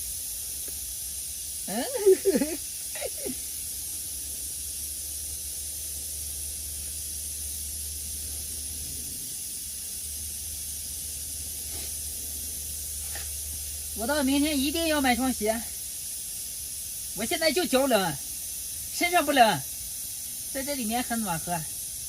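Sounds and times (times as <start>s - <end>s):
camp stove hissing: 0.0s - 22.0s.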